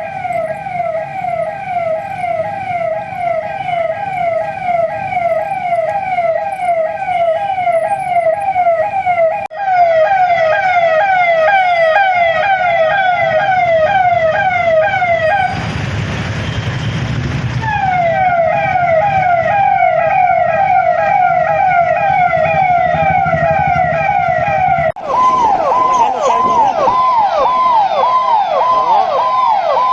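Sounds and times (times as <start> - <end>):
police siren yelping: 0.0 - 15.9, 17.6 - 29.9.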